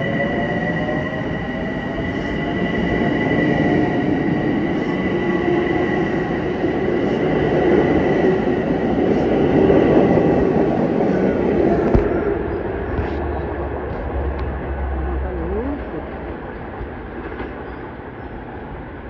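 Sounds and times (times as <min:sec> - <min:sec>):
train rumbling over rails: 0:00.0 - 0:19.0.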